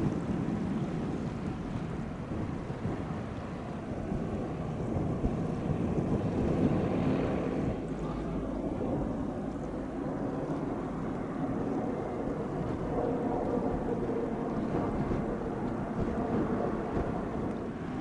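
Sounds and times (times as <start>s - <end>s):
ferry engines rumbling: 0.0s - 18.0s
wind buffeting microphone: 0.0s - 18.0s.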